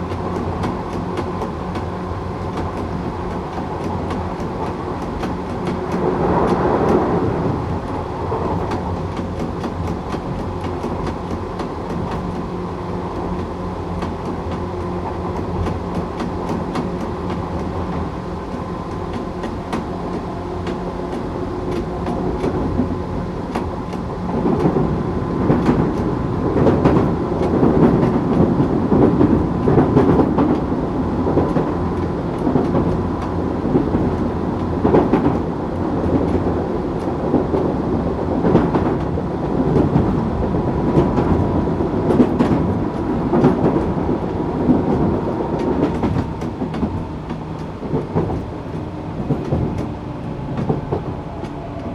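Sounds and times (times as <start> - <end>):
rail joint clacks: 0.0 - 51.9
train wheels rumbling on rails: 0.0 - 51.9.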